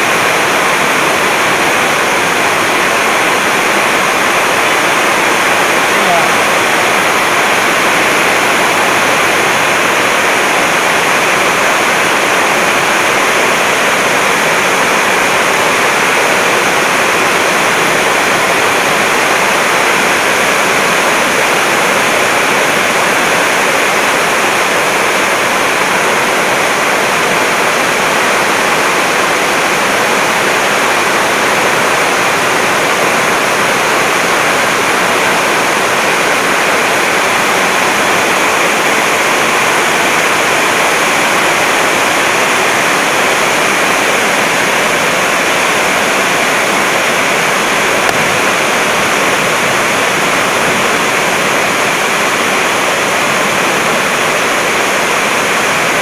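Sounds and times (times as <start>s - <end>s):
loud rushing noise: 0.0s - 56.0s.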